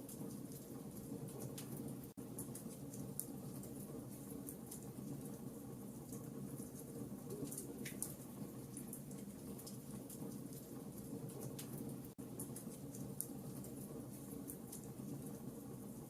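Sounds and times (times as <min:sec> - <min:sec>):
wood fire crackling and popping: 0:00.0 - 0:15.9
low rumble of burning: 0:00.0 - 0:16.0.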